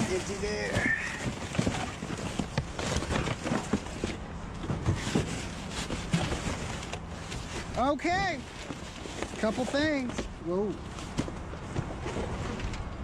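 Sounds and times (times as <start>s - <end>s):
junk shifting inside a dumpster: 0.0s - 13.0s.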